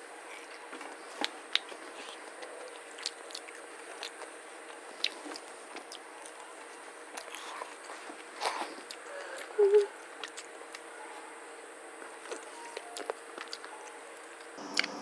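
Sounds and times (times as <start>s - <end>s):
soft wet chewing: 0.2s - 11.3s, 12.0s - 14.9s.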